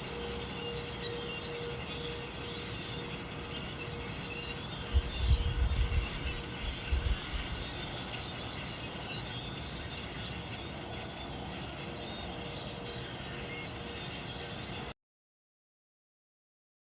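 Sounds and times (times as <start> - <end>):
flock of birds calling: 0.0 - 14.9.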